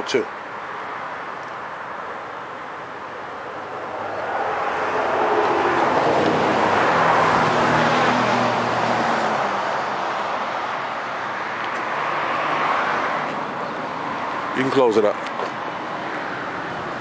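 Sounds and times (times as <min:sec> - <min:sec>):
passing road traffic: 0:00.0 - 0:17.0.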